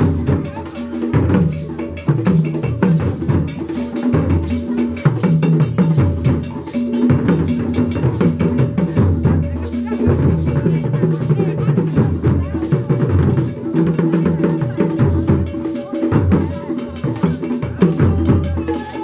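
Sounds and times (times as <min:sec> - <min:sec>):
fast percussion beat: 0:00.0 - 0:19.0.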